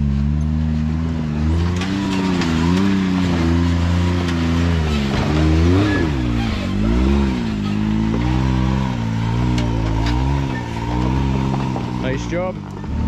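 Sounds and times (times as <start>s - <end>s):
engine revving up and down: 0.0s - 13.0s.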